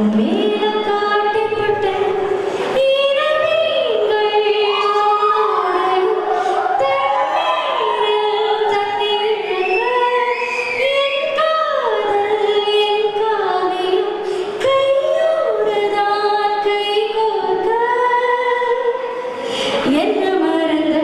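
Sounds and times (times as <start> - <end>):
woman singing into a microphone: 0.0 - 21.0.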